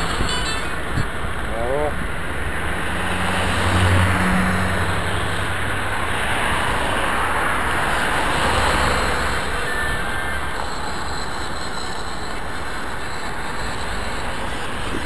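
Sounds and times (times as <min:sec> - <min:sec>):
road traffic: 0:00.0 - 0:15.0
vehicle engine hum: 0:00.0 - 0:15.0.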